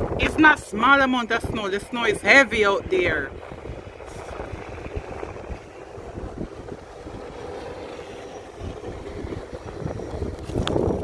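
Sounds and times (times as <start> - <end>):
wind gusting against microphone: 0.0 - 11.0.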